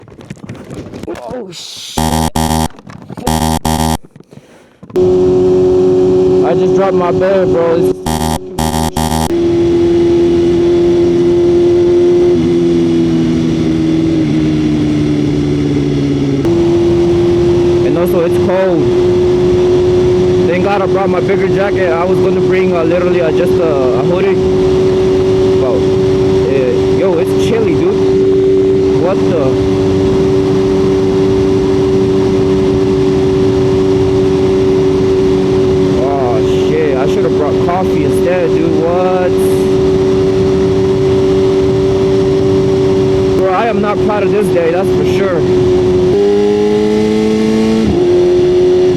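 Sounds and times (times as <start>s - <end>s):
motorcycle engine running: 2.0s - 48.9s.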